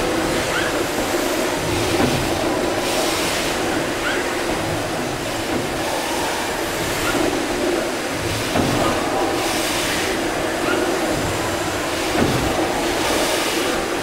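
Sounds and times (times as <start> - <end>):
rhythmic steam hiss: 0.0 - 14.0
steam engine mechanical rumble: 0.0 - 14.0.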